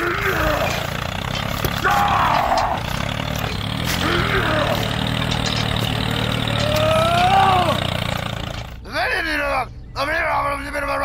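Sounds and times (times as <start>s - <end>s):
tractor engine droning: 0.0s - 10.2s.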